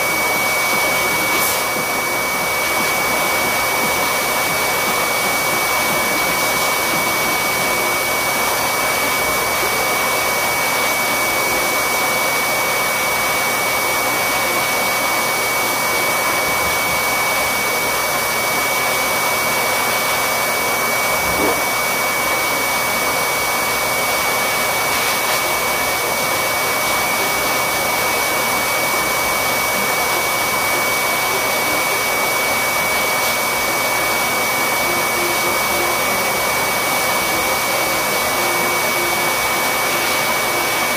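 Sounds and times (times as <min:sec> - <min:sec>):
air blower whooshing: 0:00.0 - 0:34.9.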